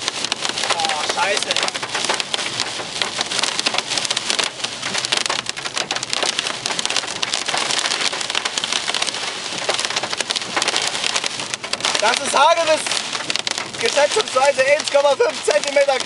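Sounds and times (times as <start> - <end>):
hail striking car roof: 0.0 - 16.0
heavy rain: 0.0 - 16.0.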